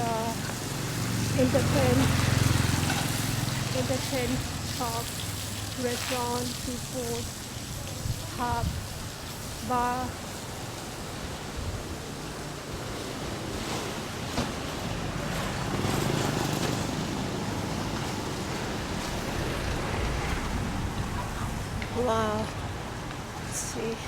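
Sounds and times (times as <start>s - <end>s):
steady rushing outdoor noise: 0.0s - 24.0s.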